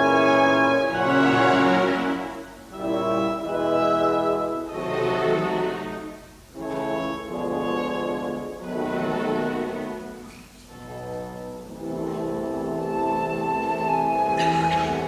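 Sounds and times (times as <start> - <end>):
french horn: 0.0 - 15.0
slow orchestral music with brass: 0.0 - 15.0.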